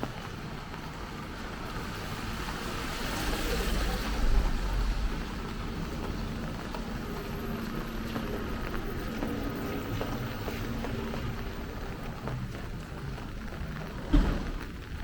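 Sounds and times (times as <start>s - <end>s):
wet city street noise: 0.0s - 15.0s.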